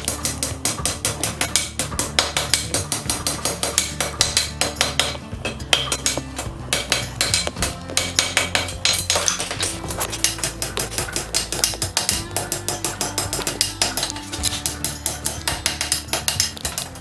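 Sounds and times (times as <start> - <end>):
hammer striking on anvil: 0.0 - 17.0.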